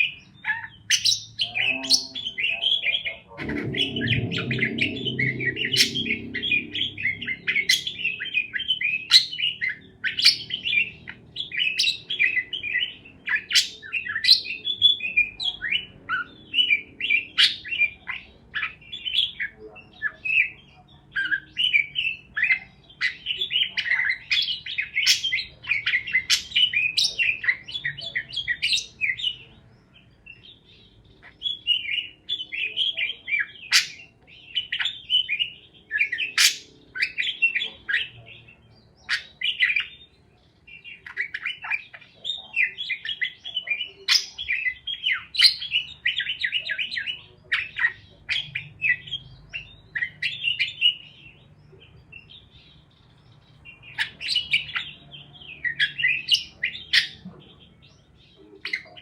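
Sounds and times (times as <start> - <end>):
parakeets chirping: 0.0 - 59.0.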